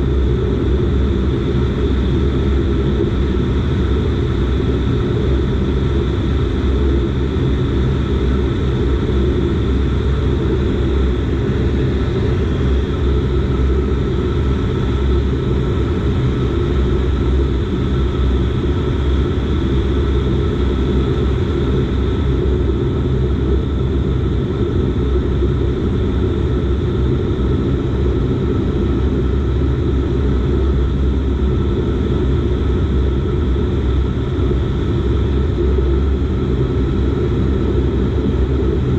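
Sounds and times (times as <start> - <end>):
faint steady whine: 0.0 - 38.9
turboprop engines droning: 0.0 - 38.9.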